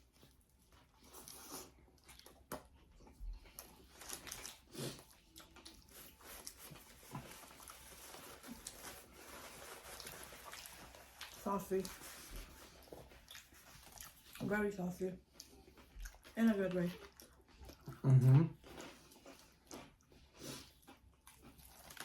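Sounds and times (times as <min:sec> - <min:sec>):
person chewing sandwich: 0:00.0 - 0:14.4, 0:15.2 - 0:22.0.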